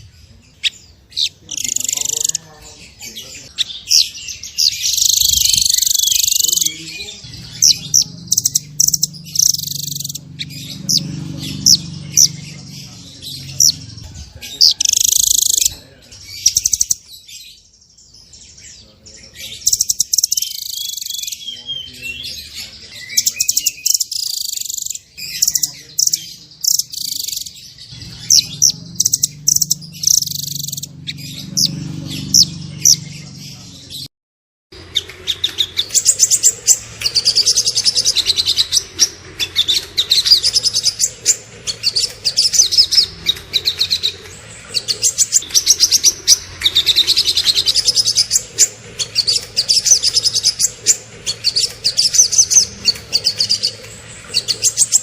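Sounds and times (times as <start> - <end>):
songbirds chirping and trilling: 0.0 - 34.1, 34.7 - 55.0.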